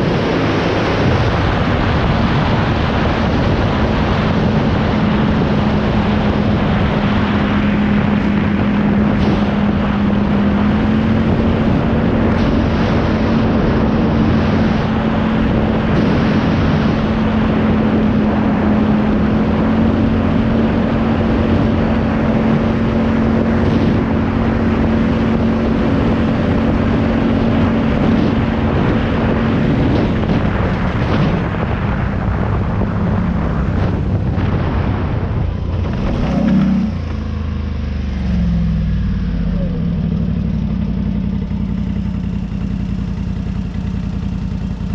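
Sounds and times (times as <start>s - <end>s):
dense rushing noise: 0.0s - 44.9s
vehicle engine running: 0.0s - 44.9s.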